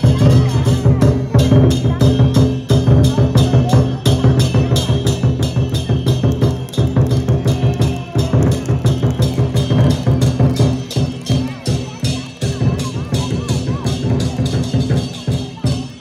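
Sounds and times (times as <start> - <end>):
cymbals clashing: 0.0 - 16.0
large drum beating: 0.0 - 16.0.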